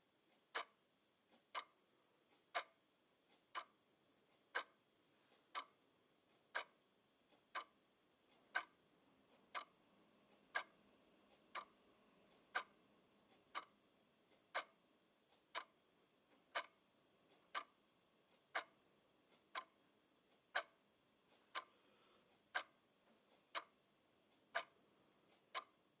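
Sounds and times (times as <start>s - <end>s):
wall clock ticking: 0.0s - 26.0s.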